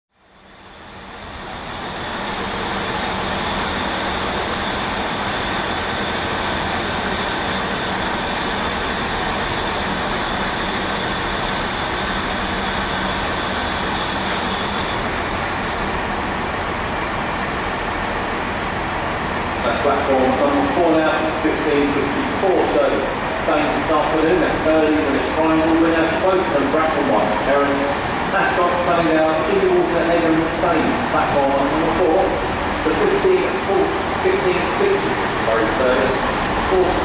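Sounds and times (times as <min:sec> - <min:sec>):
high steady whine: 0:00.1 - 0:37.0
diesel train engine rumble: 0:00.3 - 0:26.7, 0:27.3 - 0:37.0.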